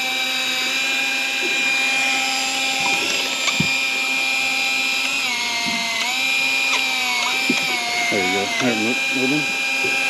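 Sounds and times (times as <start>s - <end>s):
electric fishing reel motor whining: 0.0s - 10.0s.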